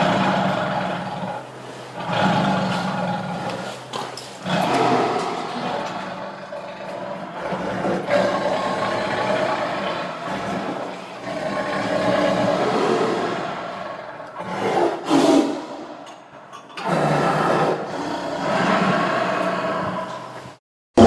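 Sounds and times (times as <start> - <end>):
big cat growling: 0.0 - 20.6.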